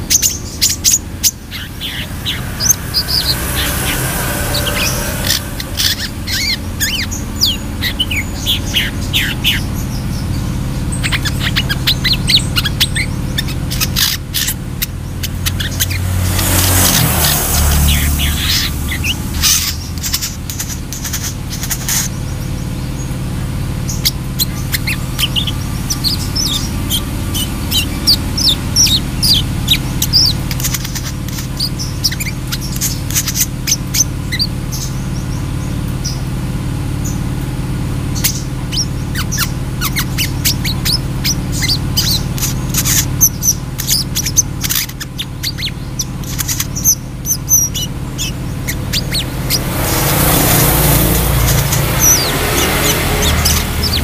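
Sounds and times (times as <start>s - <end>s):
bird chirping song: 0.0s - 54.0s
steady low hum: 0.0s - 54.0s.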